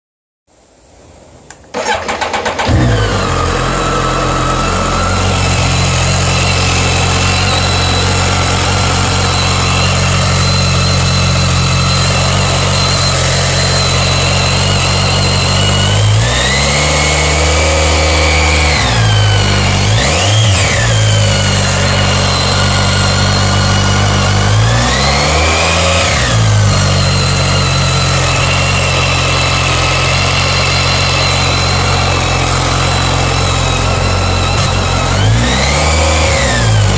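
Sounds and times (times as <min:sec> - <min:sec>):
motorcycle engine revving: 0:01.7 - 0:36.9
high-pitched screech: 0:01.8 - 0:36.9.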